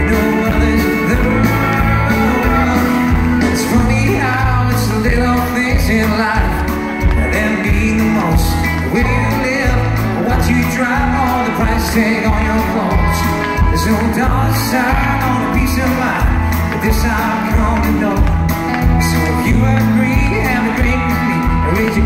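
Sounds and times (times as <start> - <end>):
electric guitars: 0.0 - 22.0
person singing: 0.0 - 22.0
pulsing bass beat: 0.0 - 22.0.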